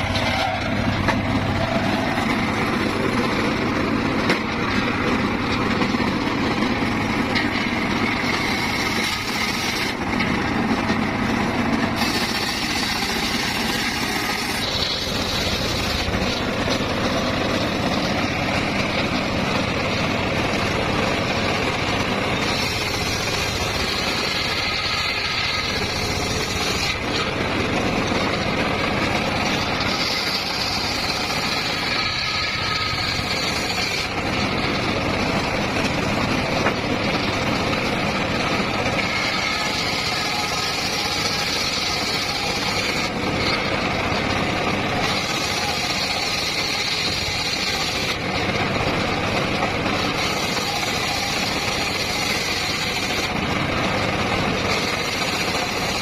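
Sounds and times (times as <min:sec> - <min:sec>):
circular sawmill running: 0:00.0 - 0:56.0.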